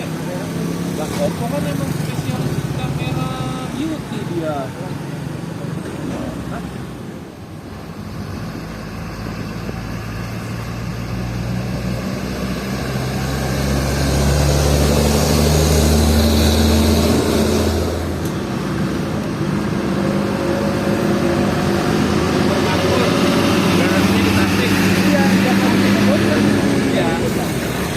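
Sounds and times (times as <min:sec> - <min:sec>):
heavy diesel truck engine passing: 0:00.0 - 0:27.9.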